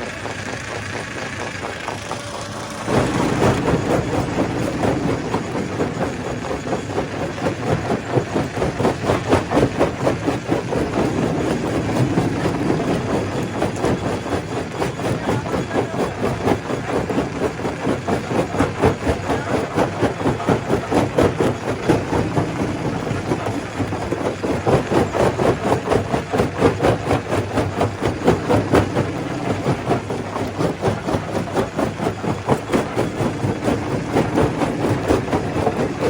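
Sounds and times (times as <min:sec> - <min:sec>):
stone crusher crushing rock: 0:01.8 - 0:36.0.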